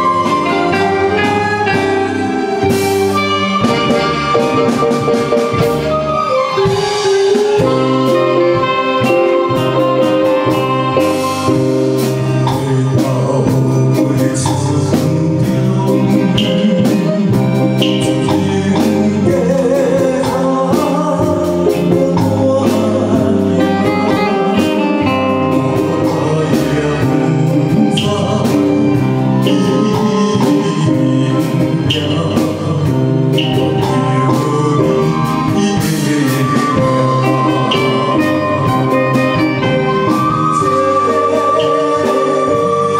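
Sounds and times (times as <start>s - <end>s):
live ensemble playing: 0.0s - 42.9s
man singing into microphone: 6.8s - 42.9s.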